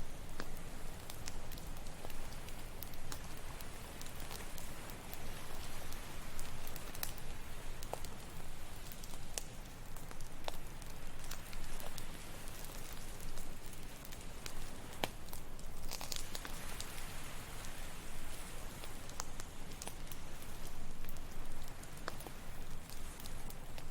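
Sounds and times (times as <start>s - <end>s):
burning wood popping: 0.0s - 23.9s
campfire crackling: 0.0s - 23.9s.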